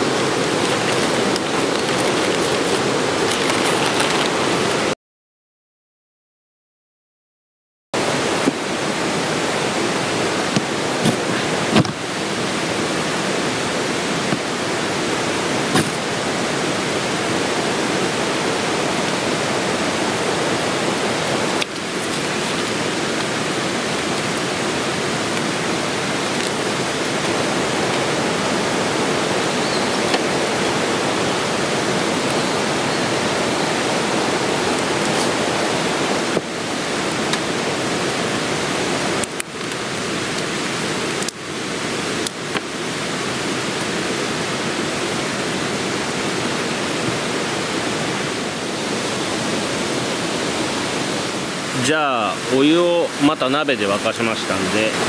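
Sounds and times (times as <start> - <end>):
mountain stream rushing: 0.0 - 5.0, 8.0 - 55.0.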